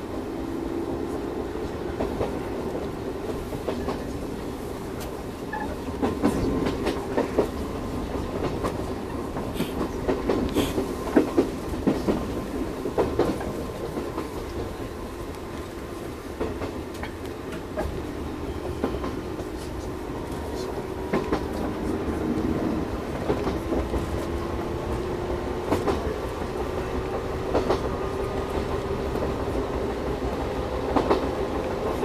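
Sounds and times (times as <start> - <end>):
train running hum: 0.0 - 32.0.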